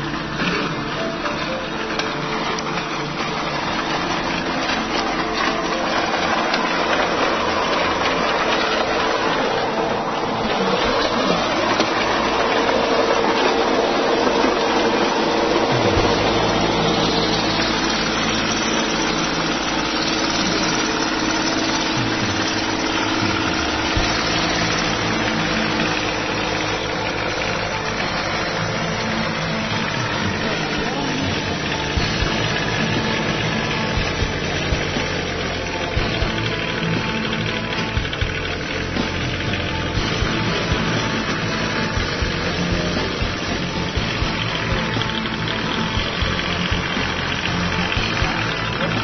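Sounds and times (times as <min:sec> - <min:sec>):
rotary tiller in soil: 0:00.0 - 0:49.0
tractor diesel engine running: 0:00.0 - 0:49.0.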